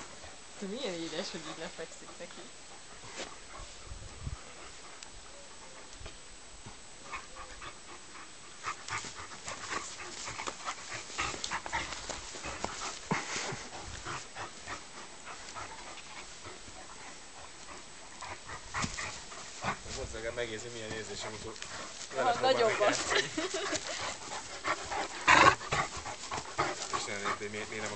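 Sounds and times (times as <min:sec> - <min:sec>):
dogs panting and huffing: 0:00.0 - 0:06.0, 0:07.0 - 0:27.9.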